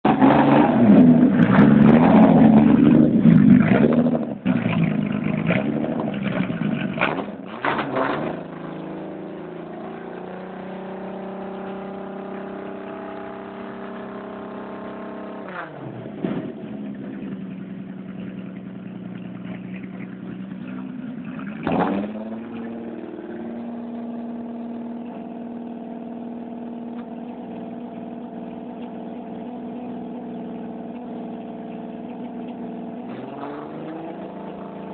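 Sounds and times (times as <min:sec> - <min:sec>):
car engine revving and idling: 0:00.0 - 0:34.9.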